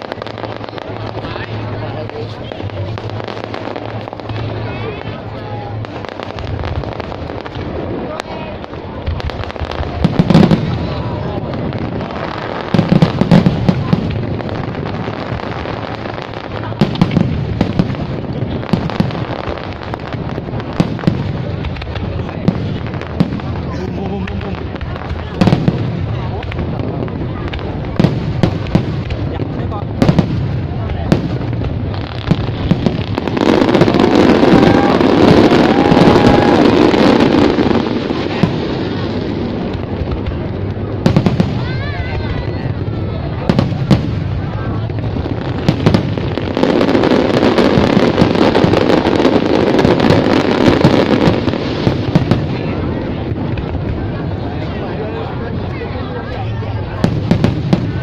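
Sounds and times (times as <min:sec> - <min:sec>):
fireworks bangs: 0:00.0 - 0:58.0
steady noisy background: 0:00.0 - 0:58.0.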